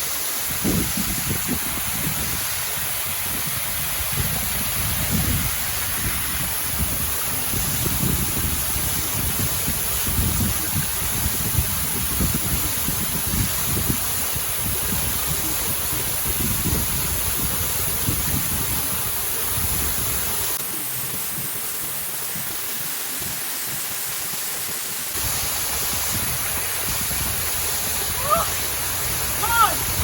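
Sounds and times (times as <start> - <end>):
waterfall rushing: 0.0 - 30.0
wind buffeting microphone: 0.4 - 23.4, 25.1 - 30.0.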